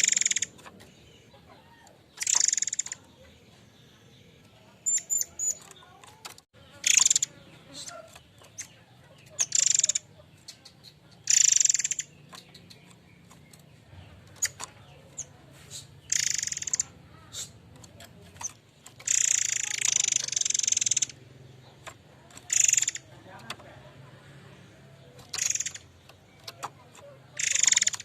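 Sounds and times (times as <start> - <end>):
bird harsh rasping calls: 0.0 - 28.0.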